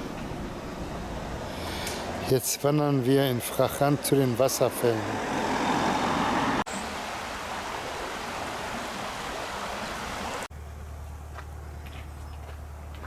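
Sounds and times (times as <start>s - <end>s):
stream water rushing: 0.0s - 10.5s.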